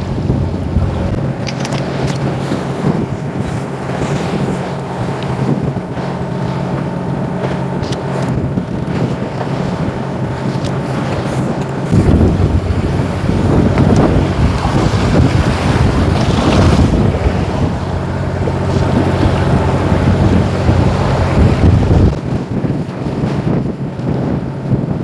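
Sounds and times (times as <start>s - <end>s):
boat engine humming: 0.0s - 25.0s
wind buffeting microphone: 0.0s - 25.0s.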